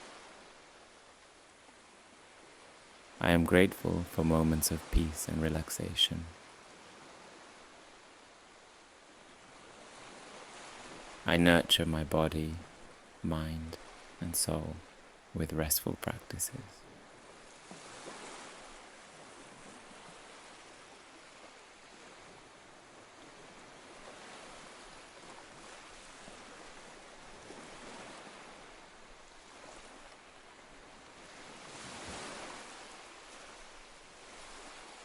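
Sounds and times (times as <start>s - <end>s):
ocean waves washing on shore: 0.0s - 35.0s.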